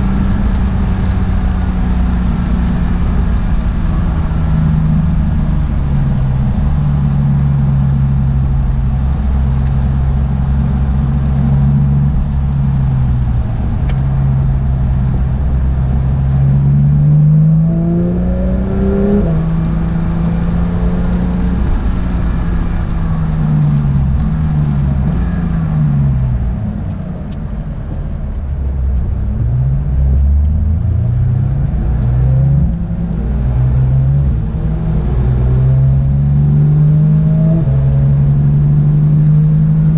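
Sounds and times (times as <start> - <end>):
sports car engine under load: 0.0 - 39.9.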